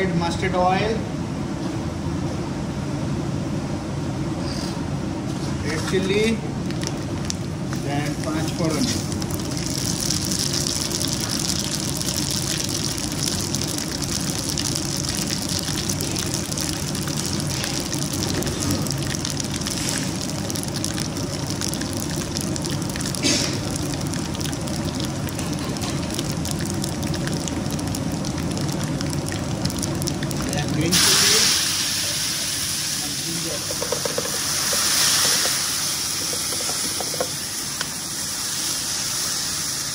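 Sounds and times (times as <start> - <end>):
spices sizzling in hot oil: 5.9 - 39.9.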